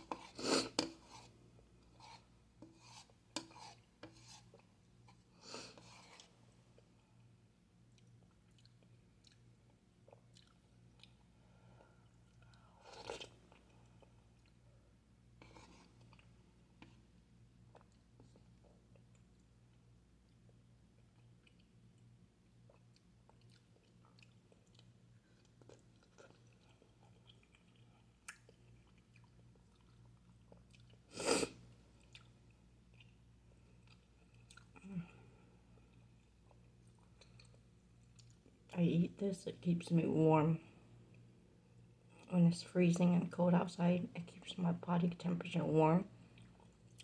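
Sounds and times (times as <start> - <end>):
faint chewing: 0.0 - 38.8, 46.2 - 47.0
low steady hum: 0.0 - 47.0.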